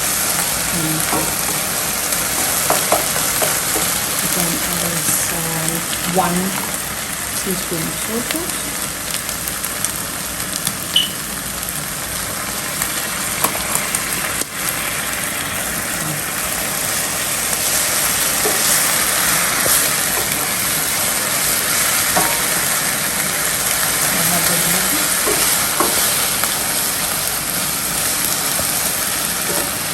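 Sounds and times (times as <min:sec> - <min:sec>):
onion sizzling in frying pan: 0:00.0 - 0:29.9.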